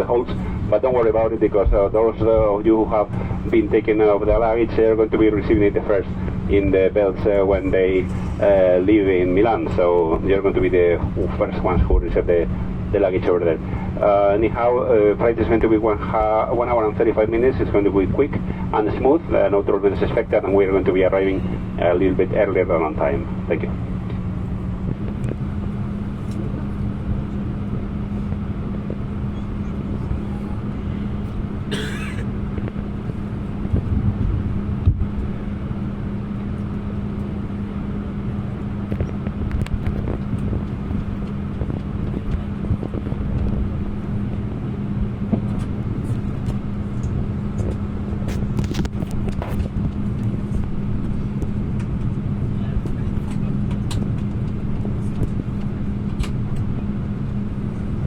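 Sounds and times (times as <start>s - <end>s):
airplane cabin hum: 0.0s - 58.0s.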